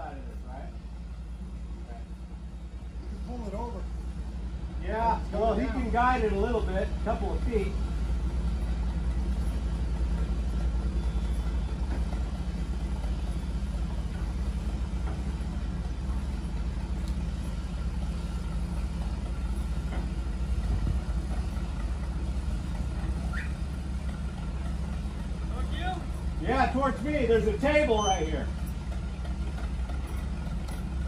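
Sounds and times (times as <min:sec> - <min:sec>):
crane engine rumbling: 0:00.0 - 0:31.0.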